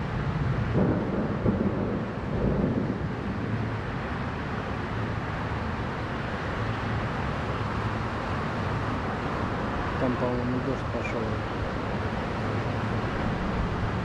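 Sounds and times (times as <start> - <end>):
distant road traffic roar: 0.0 - 14.0.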